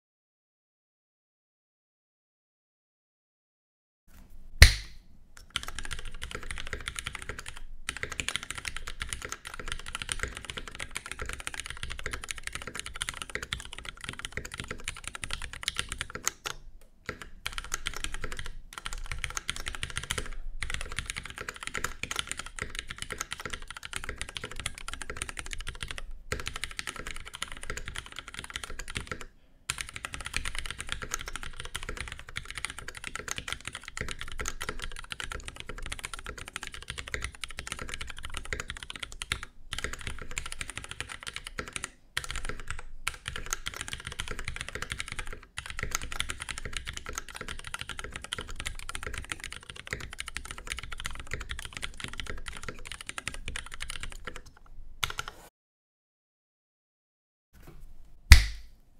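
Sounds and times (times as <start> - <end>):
fast mechanical keyboard typing: 5.5 - 55.4.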